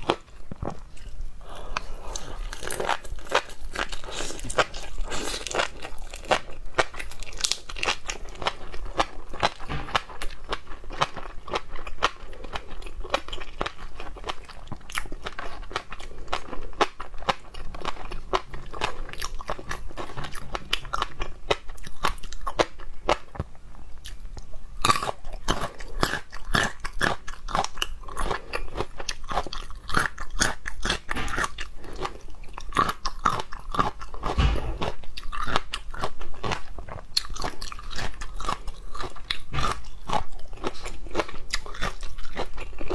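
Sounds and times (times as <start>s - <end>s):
person chewing crunchy food: 0.0s - 35.5s, 37.1s - 42.9s.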